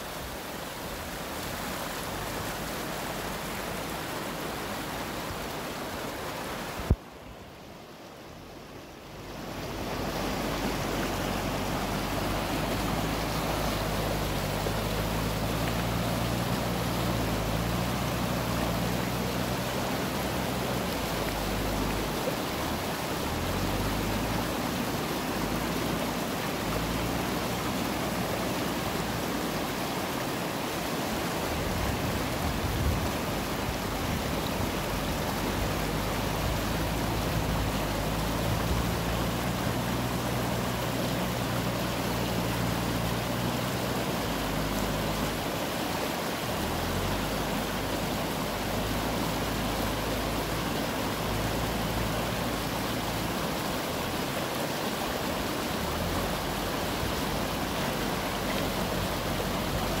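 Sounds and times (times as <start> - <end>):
fast-flowing river rushing: 0.0 - 60.0.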